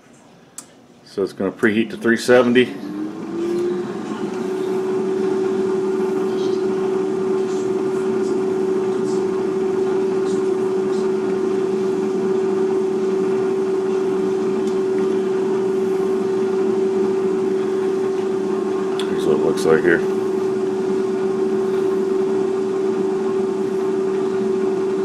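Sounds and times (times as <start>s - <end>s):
air fryer fan humming: 0.0s - 25.0s.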